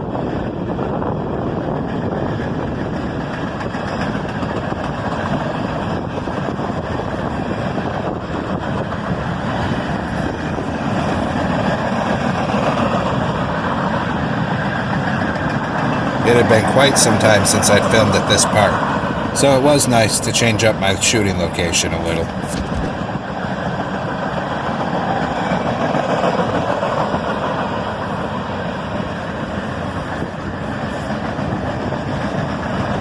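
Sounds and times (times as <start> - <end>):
steel train wheels on rail: 0.0 - 33.0.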